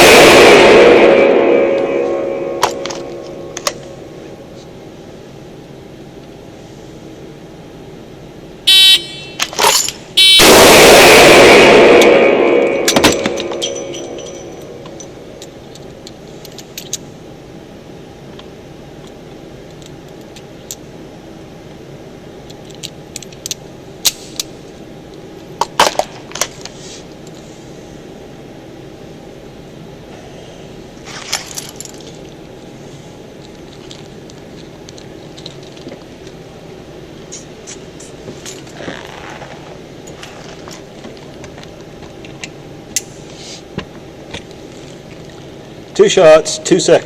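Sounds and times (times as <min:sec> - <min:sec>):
background hiss: 0:00.0 - 0:47.0.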